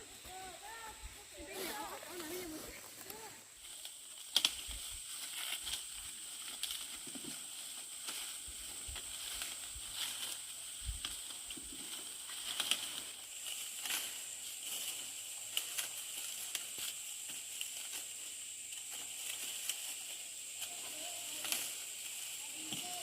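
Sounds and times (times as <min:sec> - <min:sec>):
dry corn leaves rustling: 0:00.0 - 0:23.0
steady high-pitched hiss: 0:00.0 - 0:23.0
corn ears snapping off stalks: 0:03.0 - 0:18.1, 0:18.7 - 0:23.0.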